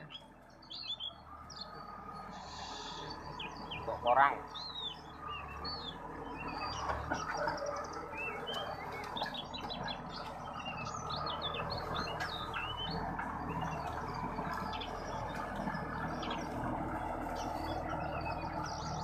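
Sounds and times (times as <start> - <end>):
birds chirping: 0.0 - 19.0
tractor engine humming: 0.0 - 19.0.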